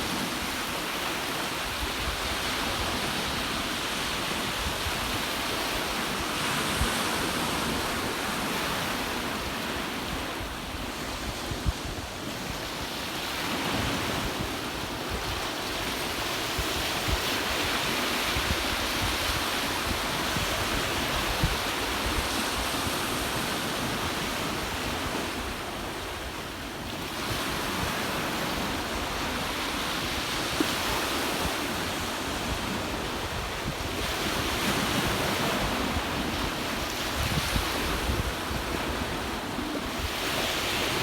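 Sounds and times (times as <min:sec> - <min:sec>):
ocean surf washing ashore: 0:00.0 - 0:41.0
wind buffeting microphone: 0:00.1 - 0:26.3, 0:27.1 - 0:41.0.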